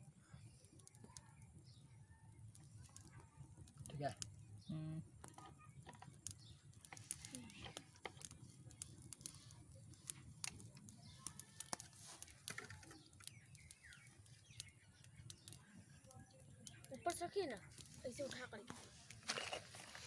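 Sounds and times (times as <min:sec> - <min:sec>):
wood fire crackling: 0:00.0 - 0:20.0
faint bird chirps: 0:00.2 - 0:03.2, 0:04.3 - 0:18.6.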